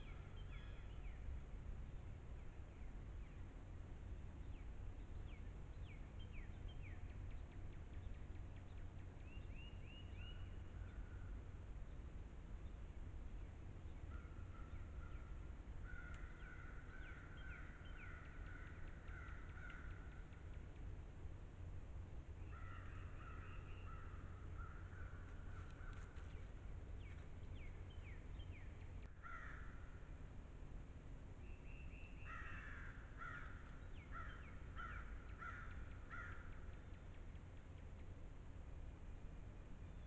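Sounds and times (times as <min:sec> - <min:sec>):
birds calling faintly: 0:00.0 - 0:40.0
steady low rumble: 0:00.0 - 0:40.0.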